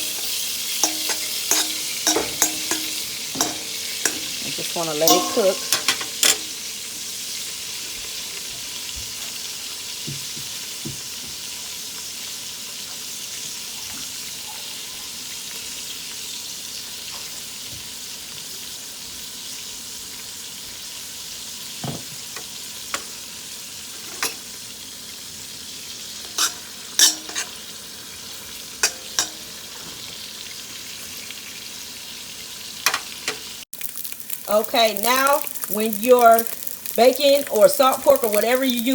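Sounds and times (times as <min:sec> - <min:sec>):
pork sizzling in oil: 0:00.0 - 0:38.9.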